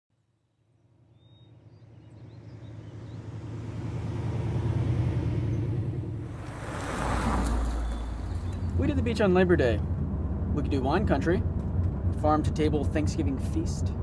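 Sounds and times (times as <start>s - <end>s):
car engine and road rumble: 0.7s - 14.0s.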